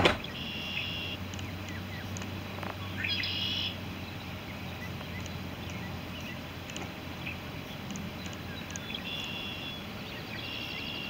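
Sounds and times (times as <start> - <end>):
high chirping bird calls: 0.0 - 2.2, 2.8 - 6.6, 7.2 - 11.0.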